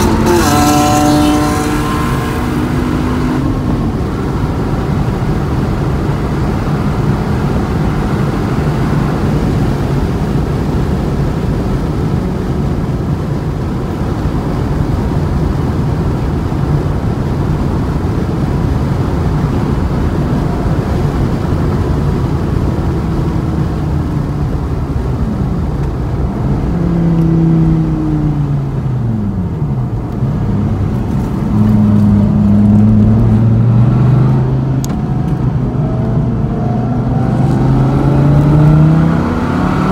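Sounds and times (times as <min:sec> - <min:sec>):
car engine running hard: 0:00.0 - 0:39.9
wind and road noise: 0:00.0 - 0:39.9.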